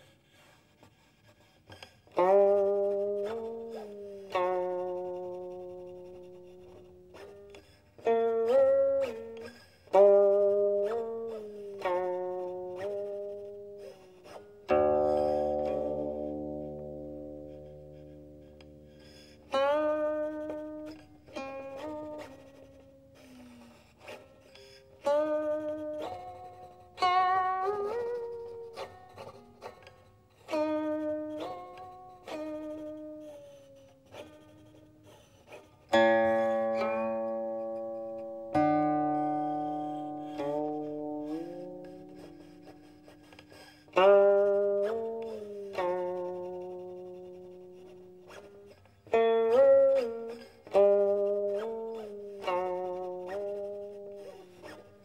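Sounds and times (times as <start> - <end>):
zither plucked notes sliding: 0.0 - 55.0.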